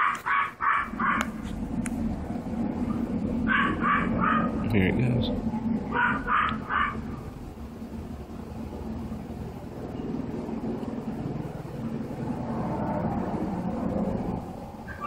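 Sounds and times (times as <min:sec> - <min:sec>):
distant rumbling drone: 0:00.0 - 0:15.0.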